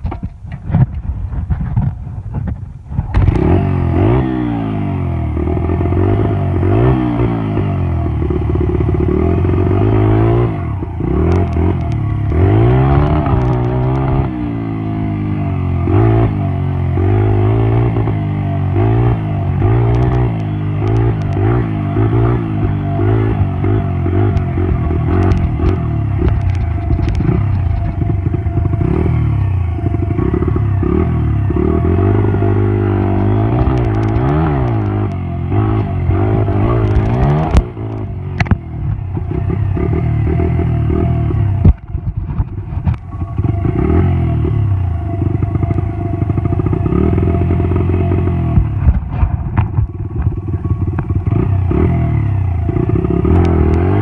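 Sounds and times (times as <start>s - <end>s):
dirt bike engine revving: 3.1s - 49.7s, 50.4s - 54.0s.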